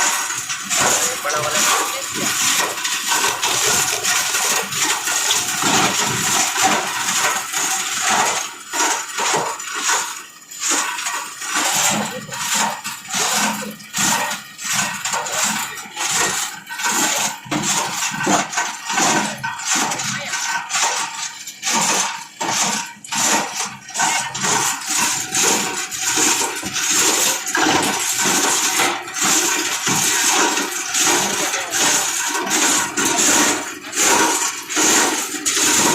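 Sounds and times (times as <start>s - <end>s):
grinder chopping plastic: 0.0s - 35.9s.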